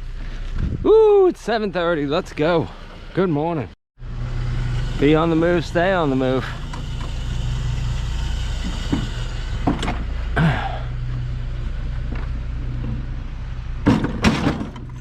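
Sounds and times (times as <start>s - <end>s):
vehicle engine running: 1.5s - 15.0s.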